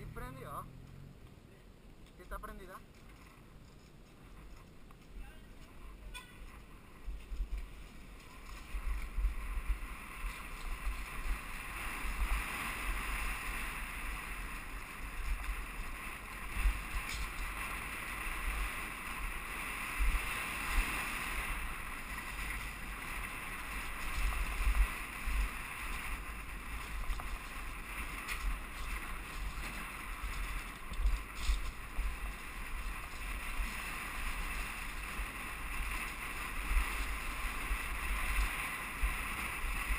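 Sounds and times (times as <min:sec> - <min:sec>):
bike rumbling over cobblestones: 0:00.0 - 0:39.9
wind buffeting camera: 0:00.0 - 0:39.9.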